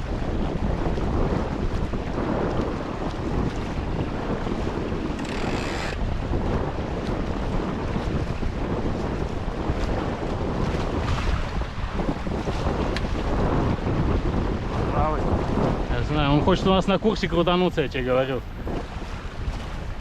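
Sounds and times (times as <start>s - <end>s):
water rushing past hulls: 0.0s - 20.0s
wind buffeting microphone: 0.0s - 20.0s.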